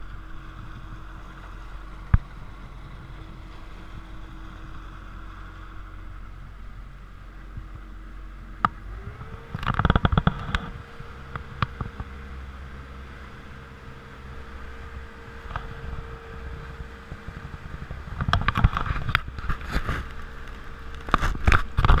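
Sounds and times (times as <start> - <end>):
motorboat engine running: 0.0 - 22.0.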